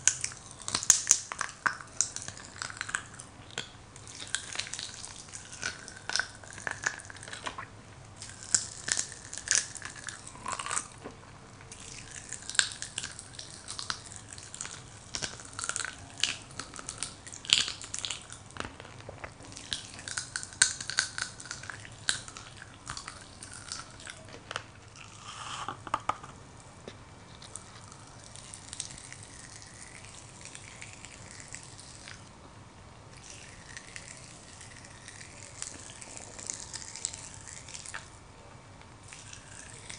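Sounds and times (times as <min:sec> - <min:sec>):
popping candy crackling: 0:00.0 - 0:32.4, 0:33.1 - 0:38.2, 0:38.8 - 0:39.9.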